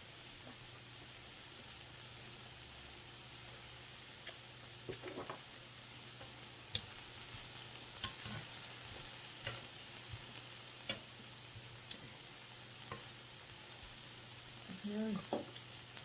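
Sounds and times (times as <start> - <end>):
food sizzling on a grill: 0.0 - 16.0.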